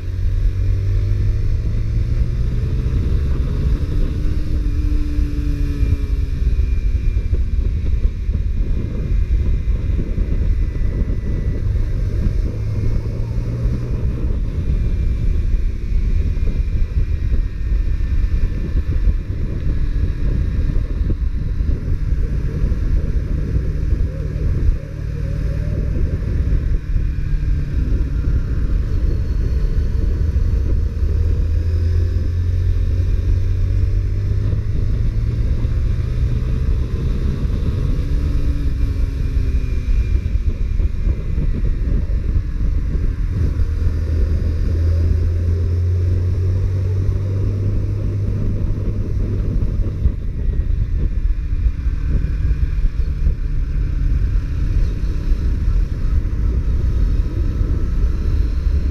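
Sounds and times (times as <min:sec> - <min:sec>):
motorcycle engine rumbling: 0:00.0 - 0:58.9.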